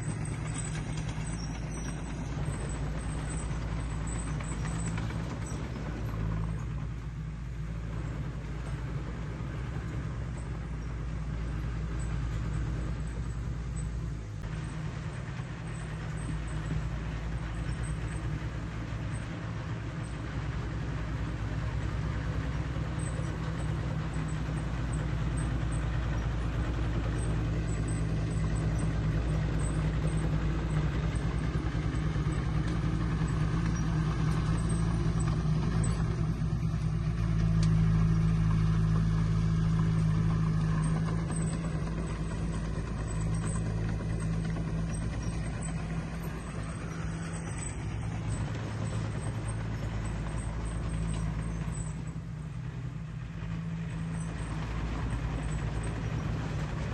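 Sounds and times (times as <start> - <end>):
bulldozer diesel engine droning: 0.0 - 56.9.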